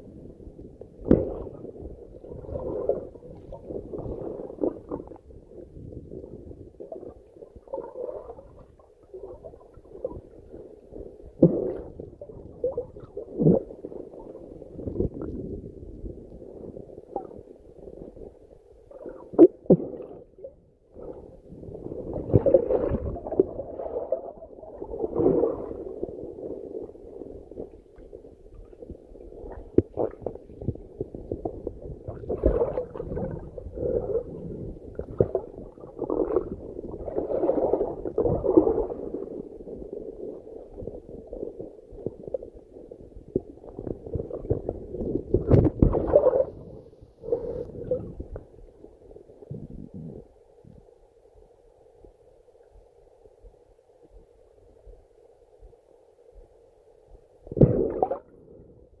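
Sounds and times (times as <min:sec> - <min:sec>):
muffled underwater gurgling: 0:00.0 - 0:50.8, 0:57.5 - 0:59.0.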